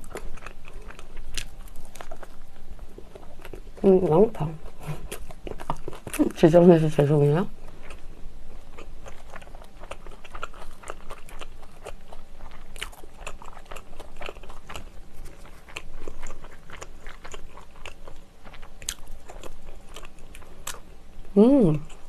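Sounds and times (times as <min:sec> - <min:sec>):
close chewing mouth sounds: 0:00.0 - 0:20.9, 0:21.7 - 0:22.0.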